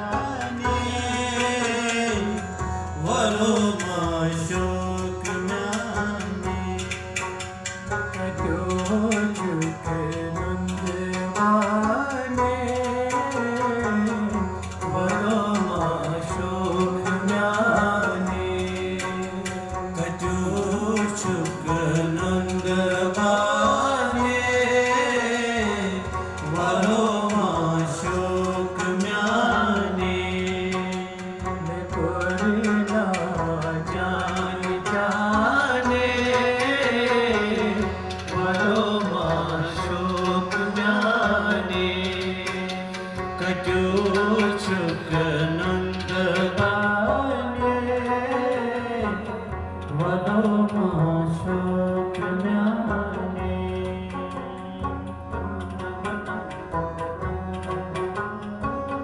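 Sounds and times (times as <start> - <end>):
male singers: 0.0 - 7.2, 8.0 - 55.2
plucked string instrument: 0.0 - 59.0.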